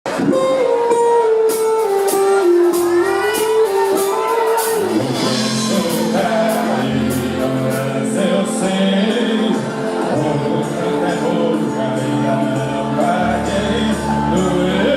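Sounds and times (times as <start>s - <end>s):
live band music: 0.1s - 14.9s
steady drum beat: 1.4s - 14.9s
person singing: 2.0s - 14.9s.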